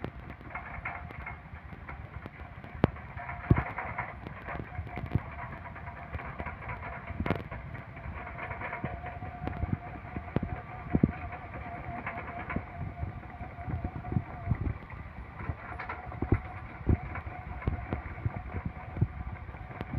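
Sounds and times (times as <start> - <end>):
excavator engine whining: 0.0 - 19.9.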